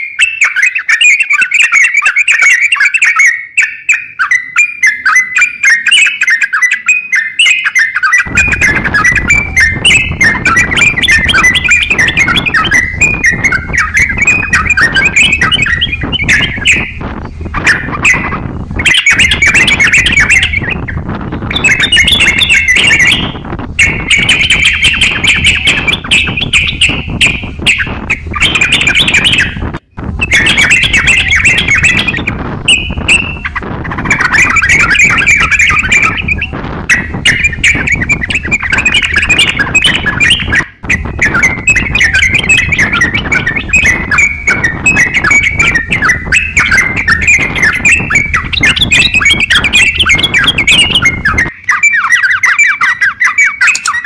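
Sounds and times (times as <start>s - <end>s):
songbird chattering song: 0.0s - 54.0s.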